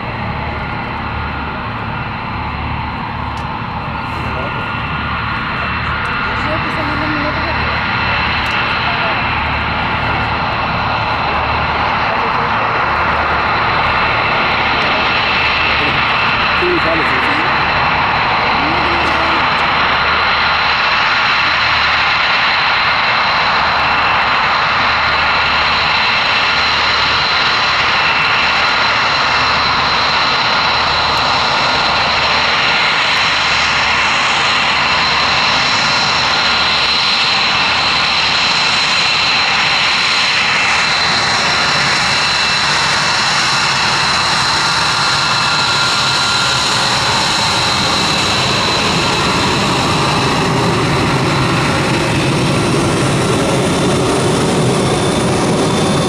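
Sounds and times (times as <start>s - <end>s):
aircraft engine roaring: 0.0s - 56.0s.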